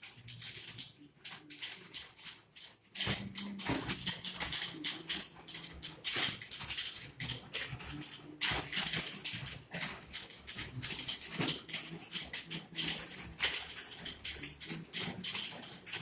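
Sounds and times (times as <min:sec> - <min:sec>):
typewriter keys clicking: 0:00.0 - 0:16.0.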